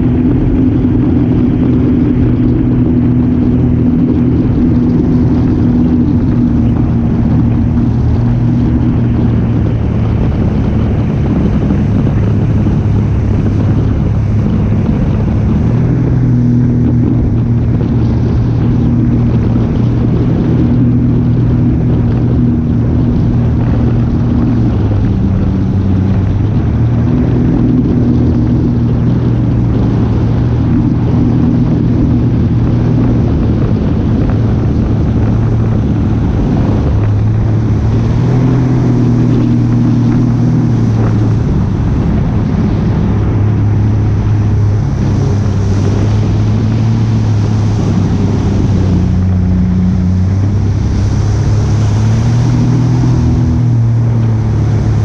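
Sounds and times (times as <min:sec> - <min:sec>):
motor engine running: 0:00.0 - 0:55.0.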